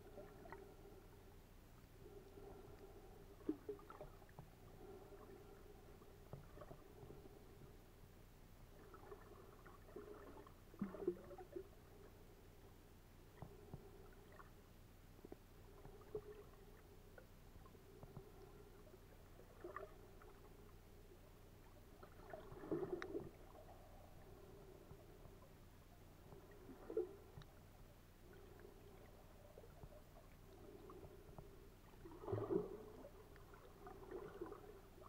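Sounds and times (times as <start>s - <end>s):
water gurgling swishes: 0.0s - 7.9s, 8.6s - 35.0s
low underwater hum: 0.0s - 35.0s
small clicks underwater: 0.2s - 7.8s, 8.8s - 12.2s, 13.3s - 14.6s, 15.2s - 35.0s.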